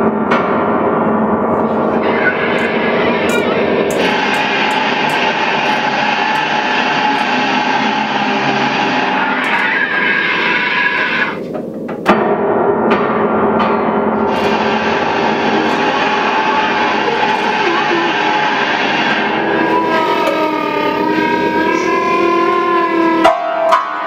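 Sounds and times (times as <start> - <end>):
clarinet and electric guitar drone: 1.8 - 11.5, 14.3 - 24.0.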